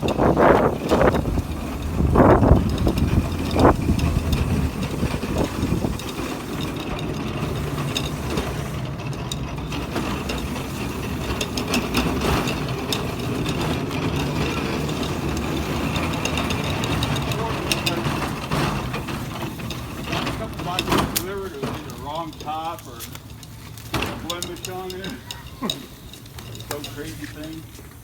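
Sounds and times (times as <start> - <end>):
light clicks and rattles: 0.0 - 28.0
truck engine idling: 0.0 - 28.0.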